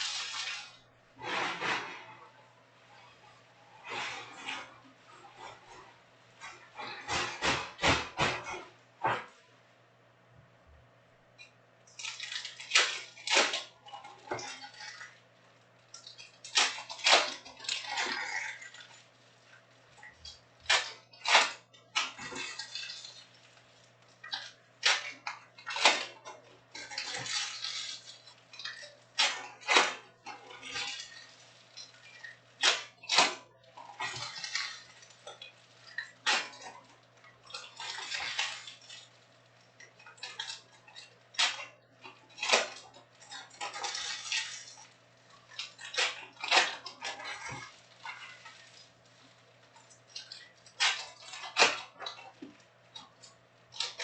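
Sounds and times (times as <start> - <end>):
foil packs crinkling: 0.0 - 2.2, 12.0 - 54.0.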